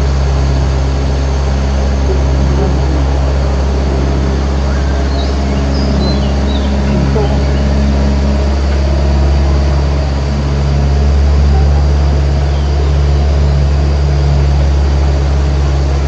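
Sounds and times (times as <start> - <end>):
tram engine humming: 0.0 - 16.0.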